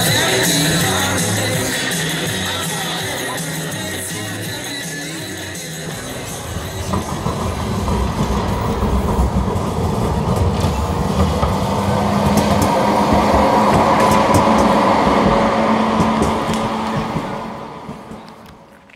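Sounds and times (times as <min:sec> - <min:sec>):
tram running on street track: 0:00.0 - 0:18.9.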